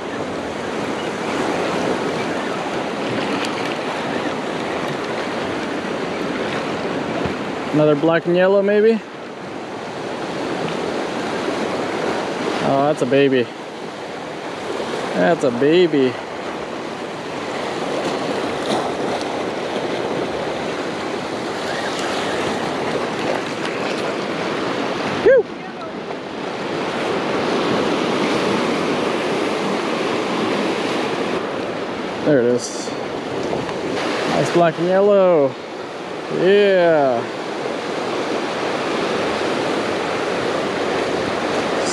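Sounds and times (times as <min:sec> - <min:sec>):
ocean surf breaking on shore: 0:00.0 - 0:41.9.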